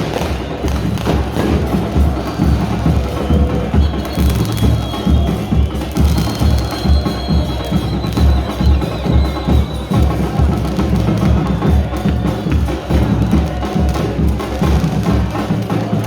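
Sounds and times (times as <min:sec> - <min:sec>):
heavy bass drum beats: 0:00.0 - 0:16.0.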